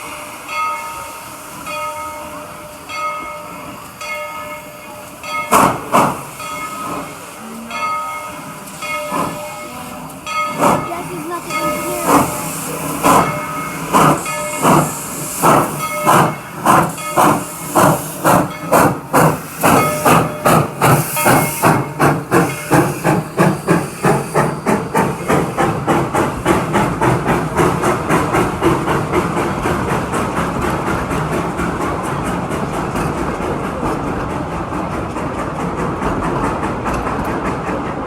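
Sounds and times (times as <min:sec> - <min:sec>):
steam hissing: 0:00.0 - 0:37.4
steam locomotive chuffing: 0:00.0 - 0:38.0.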